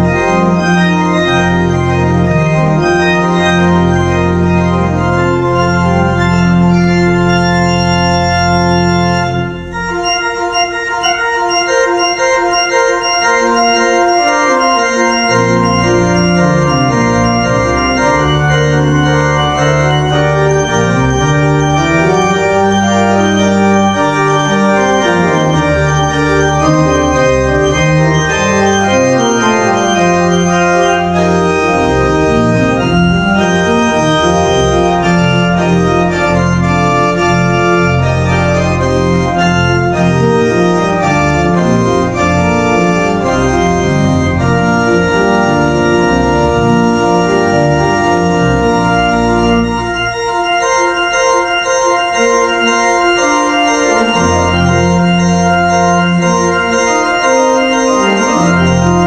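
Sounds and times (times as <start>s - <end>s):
church organ playing loudly: 0.0s - 59.0s
sustained organ pedal bass: 0.0s - 59.0s.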